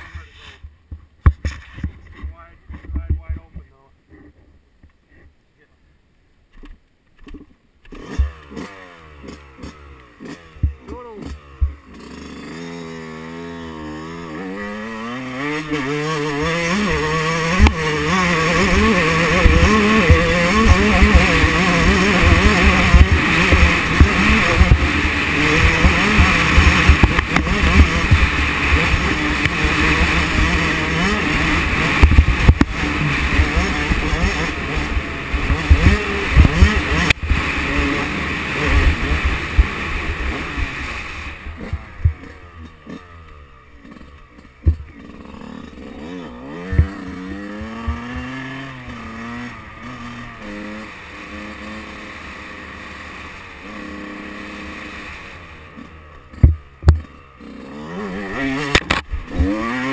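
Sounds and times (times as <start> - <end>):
dirt bike engine revving: 7.3 - 59.9.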